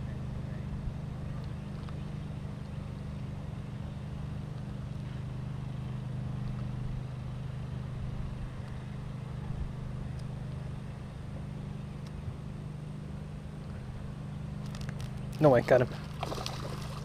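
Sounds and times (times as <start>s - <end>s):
motor humming: 0.7s - 17.0s.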